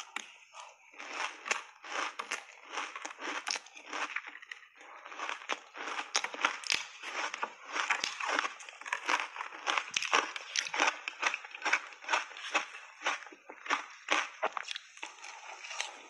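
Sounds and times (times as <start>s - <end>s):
ice crunching while chewing: 0.0s - 16.0s.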